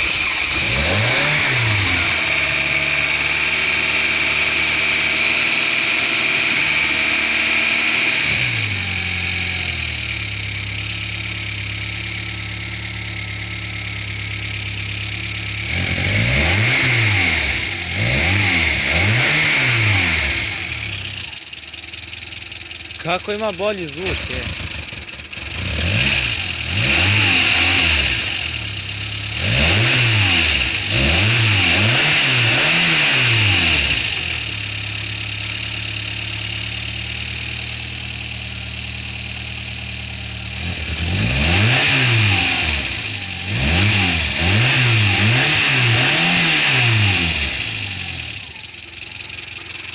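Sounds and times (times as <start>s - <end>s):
car engine revving and idling: 0.0s - 49.9s.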